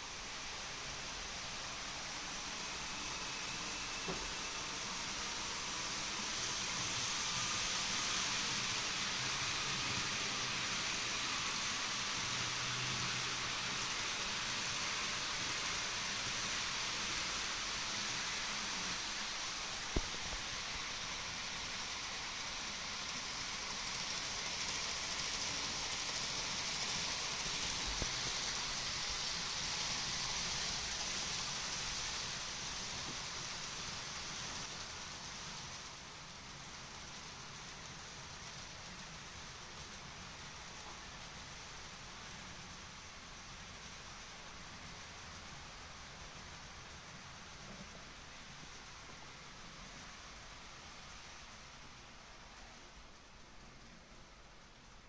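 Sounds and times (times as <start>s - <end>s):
model train wheels rolling: 0.0s - 55.0s.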